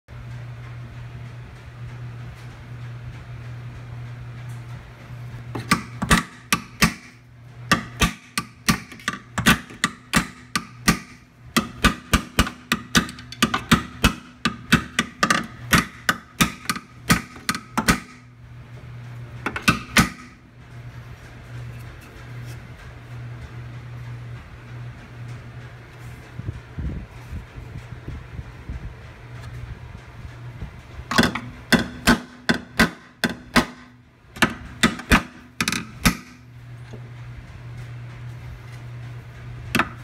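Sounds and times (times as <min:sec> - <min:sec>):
steady low hum: 0:00.1 - 0:40.0.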